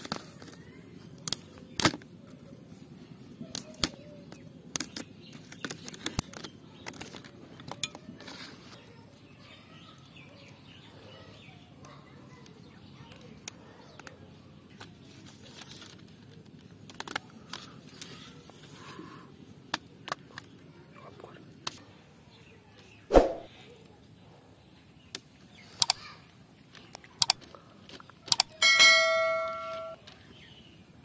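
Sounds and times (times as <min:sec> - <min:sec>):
faint outdoor background: 0:00.0 - 0:31.0.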